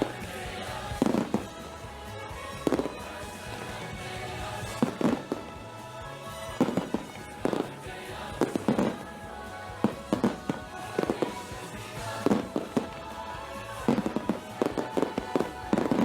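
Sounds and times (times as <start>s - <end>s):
fireworks bursting with sharp bangs: 0.0s - 16.0s
music playing: 0.0s - 16.0s.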